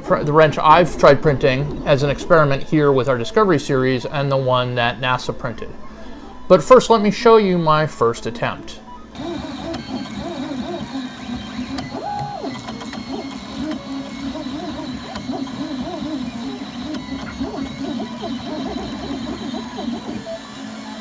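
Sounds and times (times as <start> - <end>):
printer stepper motors whining: 0.0 - 21.0.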